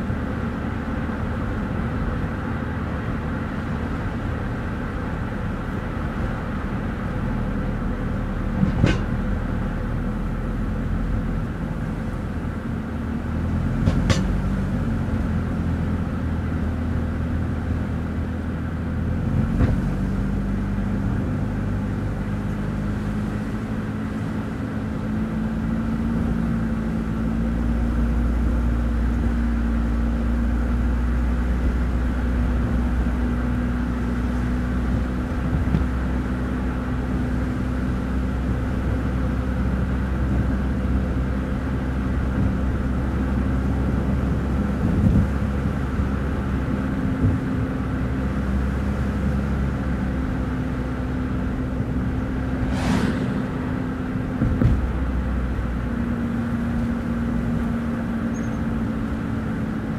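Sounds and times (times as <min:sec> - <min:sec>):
car engine hum: 0:00.0 - 0:59.9
road and tyre noise: 0:00.0 - 0:59.9.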